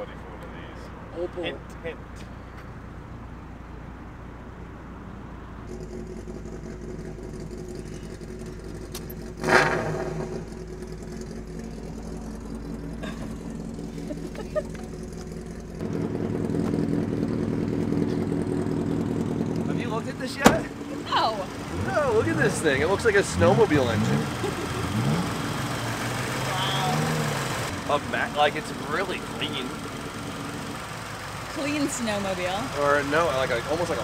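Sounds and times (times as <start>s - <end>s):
car engine idling: 5.6s - 34.0s.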